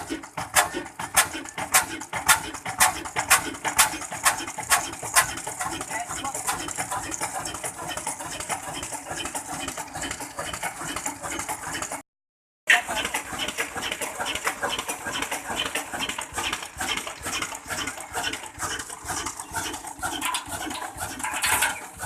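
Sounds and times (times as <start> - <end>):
engine knocking: 0.0 - 12.0, 12.7 - 22.0.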